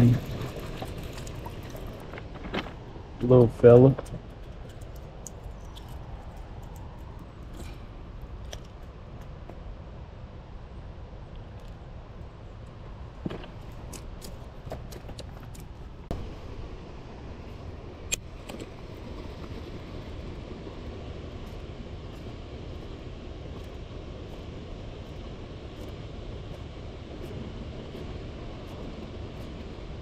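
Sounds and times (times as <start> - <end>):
water flowing rumble: 0.0 - 30.0.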